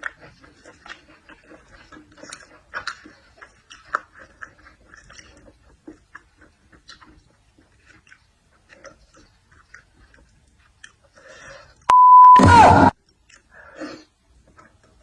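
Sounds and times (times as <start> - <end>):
person chewing with mouth smacks: 0.0 - 11.8, 13.0 - 15.0.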